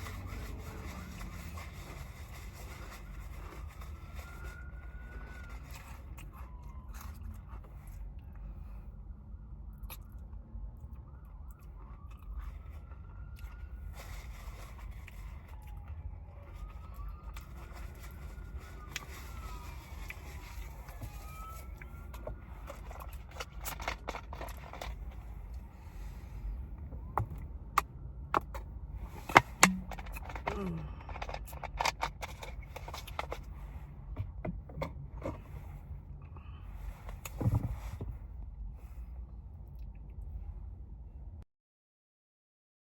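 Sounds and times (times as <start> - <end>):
faint siren wailing: 0.0 - 35.7.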